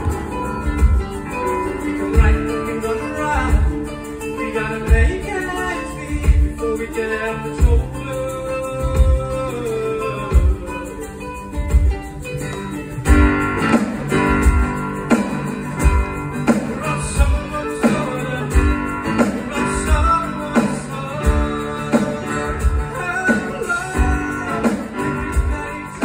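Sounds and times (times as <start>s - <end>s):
strummed guitar chords: 0.0s - 26.0s.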